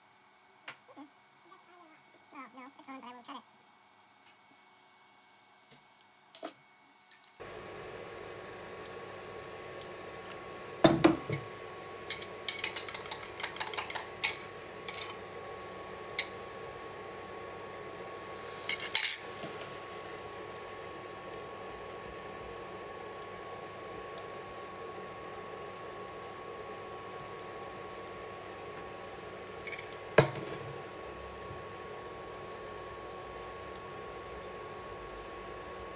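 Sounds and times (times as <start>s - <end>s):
steady hum with faint hiss: 0.0s - 35.9s.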